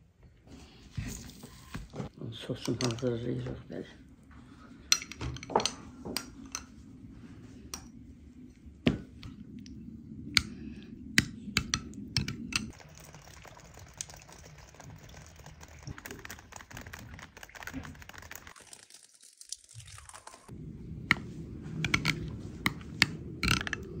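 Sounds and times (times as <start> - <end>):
low steady hum: 0.0 - 18.2, 19.9 - 24.0.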